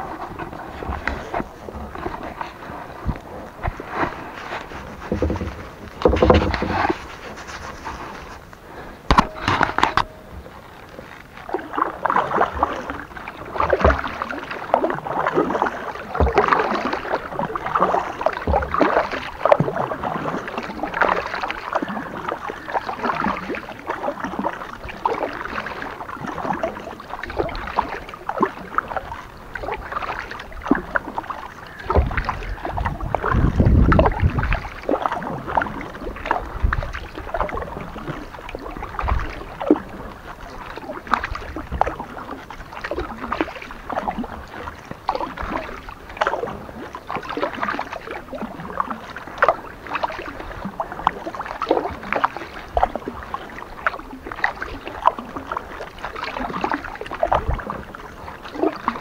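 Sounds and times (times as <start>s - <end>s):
paddle strokes splashing water: 0.0s - 59.0s.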